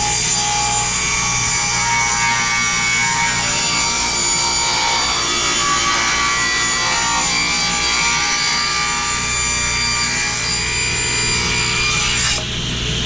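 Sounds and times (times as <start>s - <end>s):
table saw cutting wood: 0.0s - 12.5s.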